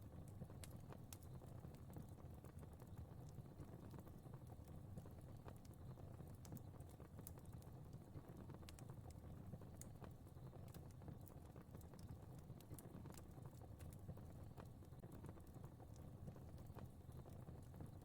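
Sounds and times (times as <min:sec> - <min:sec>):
fire crackling softly: 0:00.0 - 0:18.0.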